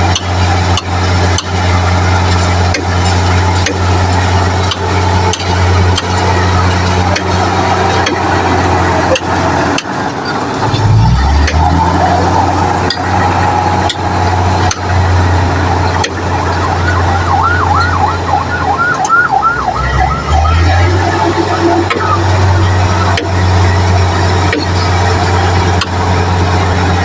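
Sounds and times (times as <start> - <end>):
low motor hum: 0.0 - 27.0
warbling siren-like tone: 0.0 - 27.0.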